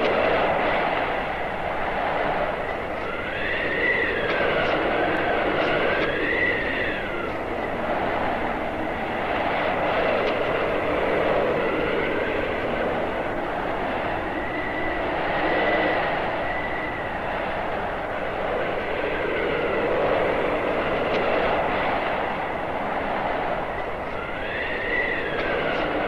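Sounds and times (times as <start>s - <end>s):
howling blizzard wind: 0.0s - 26.0s
thin whistling wind tones: 0.0s - 26.0s.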